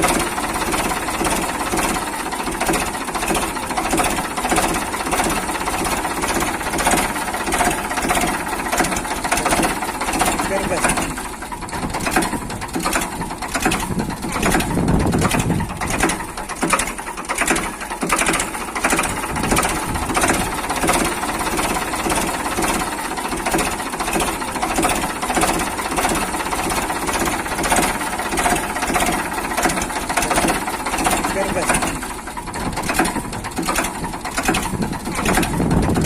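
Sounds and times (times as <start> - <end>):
small tractor engine knocking: 0.0 - 36.0.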